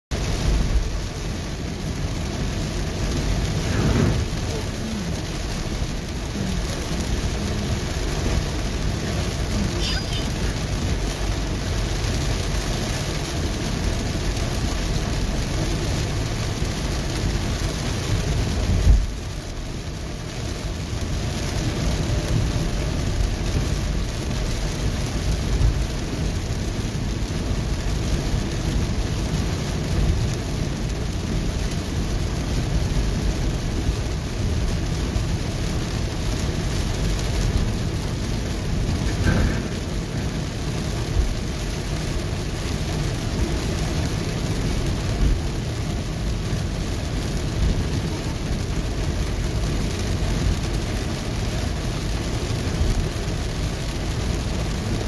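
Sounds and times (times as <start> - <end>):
heavy rain on a car roof: 0.1 - 55.0
road rumble: 0.1 - 55.0.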